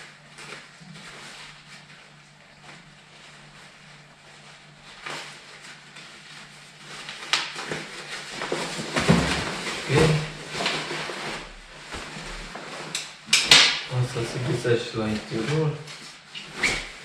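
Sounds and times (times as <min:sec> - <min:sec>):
jacket fabric rustling: 0:00.0 - 0:17.0.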